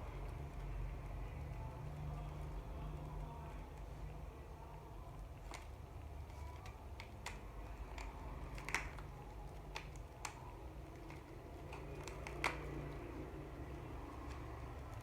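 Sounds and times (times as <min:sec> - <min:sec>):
light clicks and taps: 0:00.0 - 0:15.0
low steady hum: 0:00.0 - 0:15.0.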